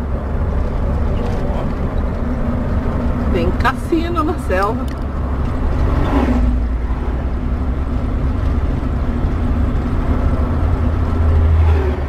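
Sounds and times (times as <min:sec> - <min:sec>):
bus engine droning: 0:00.0 - 0:12.0
road noise: 0:00.0 - 0:12.0.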